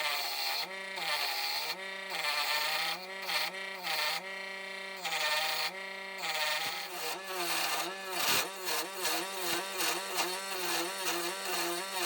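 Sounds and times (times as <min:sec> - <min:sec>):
cutting tool hissing on wood: 0:00.0 - 0:04.2, 0:04.9 - 0:12.0
wood lathe motor running: 0:00.0 - 0:12.0.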